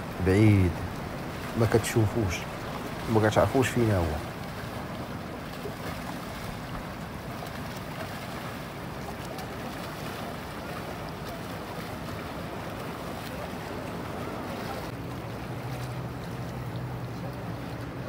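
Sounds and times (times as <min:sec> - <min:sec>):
faint splashes: 0:00.0 - 0:18.0
sea water washing: 0:00.0 - 0:18.0.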